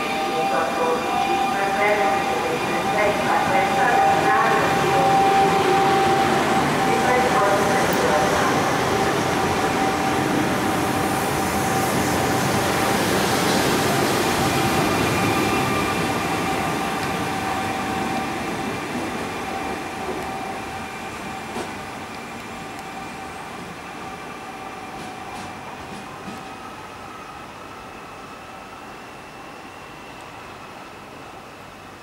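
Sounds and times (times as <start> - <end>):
electric train rolling and whining: 0.0 - 32.0.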